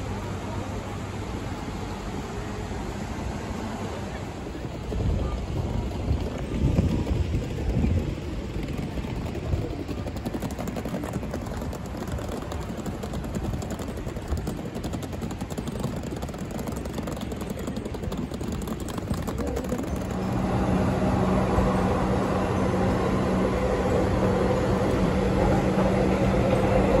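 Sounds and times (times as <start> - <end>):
low hum inside train: 0.0 - 27.0
road traffic going by: 0.0 - 27.0.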